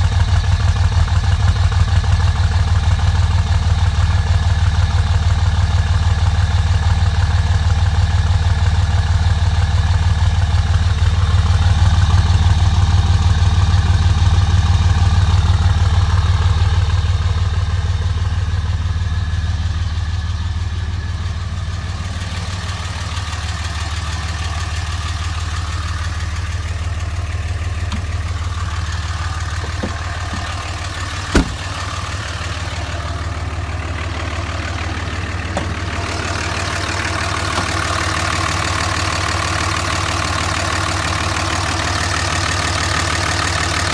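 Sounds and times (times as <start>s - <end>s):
pickup engine idling: 0.0s - 43.9s.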